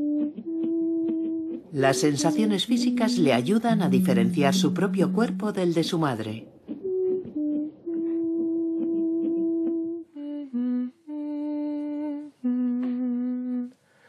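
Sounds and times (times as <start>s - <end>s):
woman humming a lullaby: 0.0s - 13.8s.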